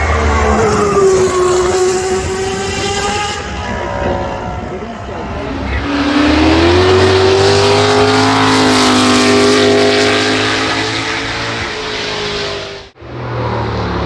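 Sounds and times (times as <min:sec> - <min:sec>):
car engine revving past: 0:00.0 - 0:14.0.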